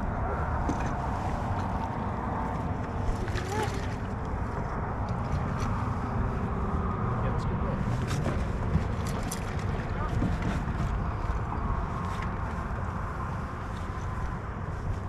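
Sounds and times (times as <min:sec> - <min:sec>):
boat motor running: 0:00.0 - 0:15.0
wind buffeting microphone: 0:00.0 - 0:15.0.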